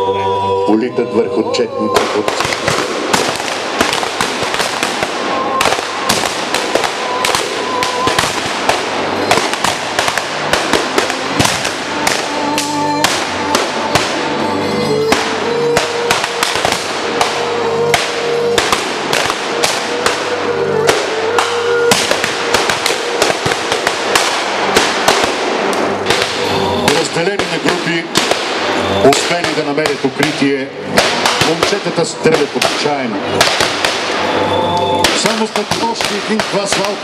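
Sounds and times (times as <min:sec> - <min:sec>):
music: 0:00.0 - 0:37.0
rifle gunfire: 0:02.0 - 0:34.4, 0:35.0 - 0:37.0.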